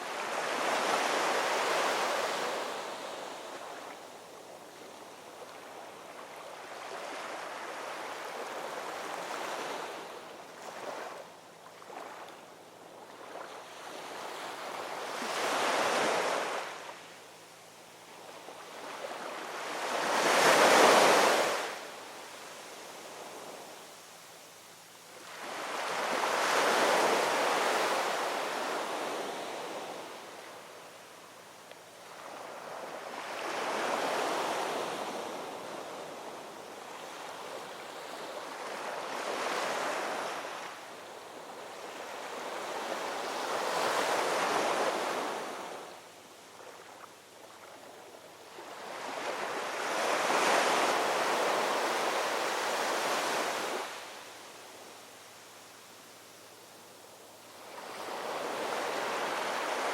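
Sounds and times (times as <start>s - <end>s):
ocean waves breaking on shore: 0.0s - 17.1s, 18.1s - 23.8s, 25.2s - 30.8s, 32.0s - 54.9s, 57.6s - 59.9s.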